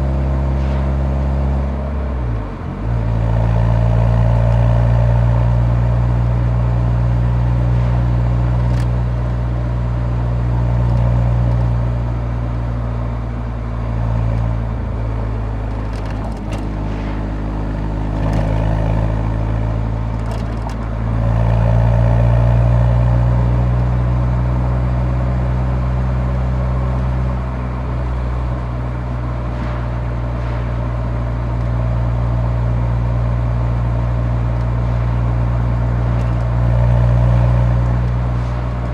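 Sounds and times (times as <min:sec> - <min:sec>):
car exhaust drone while driving: 0:00.0 - 0:38.9.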